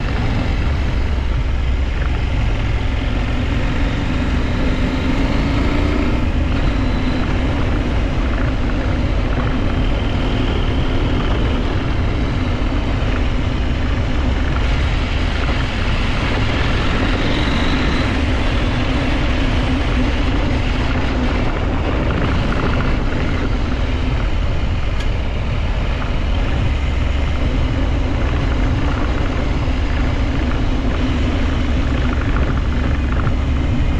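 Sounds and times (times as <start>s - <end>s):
motorcycle engine revving: 0.0s - 33.9s
wind and road noise: 0.0s - 33.9s.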